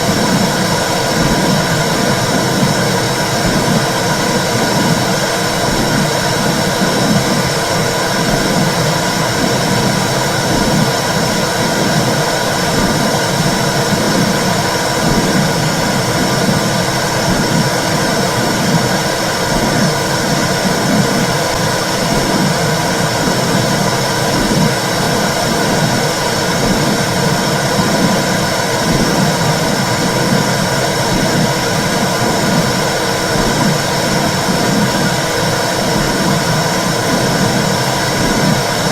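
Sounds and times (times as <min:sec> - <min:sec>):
low pulsing beat: 0:00.0 - 0:38.9
steady hums: 0:00.0 - 0:38.9.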